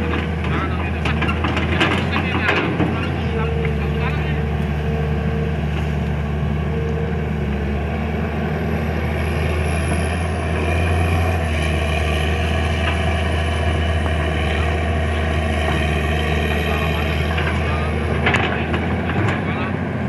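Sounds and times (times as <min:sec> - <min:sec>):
heavy diesel engines droning: 0:00.0 - 0:20.0.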